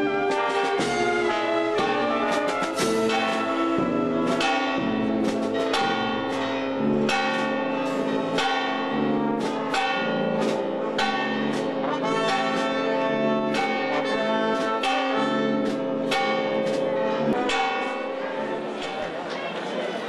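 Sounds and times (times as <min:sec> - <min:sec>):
brass band playing chords: 0:00.0 - 0:07.2, 0:09.0 - 0:18.8
church bells ringing: 0:00.0 - 0:19.5.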